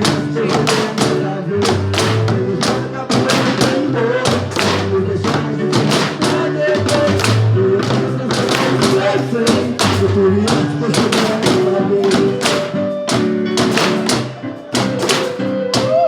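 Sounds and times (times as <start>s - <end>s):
pitched percussion melody: 0.0s - 16.0s
struck cans beat: 0.0s - 16.0s.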